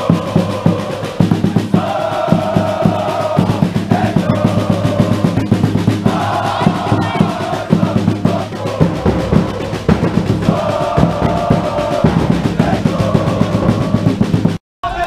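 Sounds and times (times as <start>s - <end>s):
crowd chanting: 0.0s - 15.0s
drums beating steady rhythm: 0.0s - 15.0s.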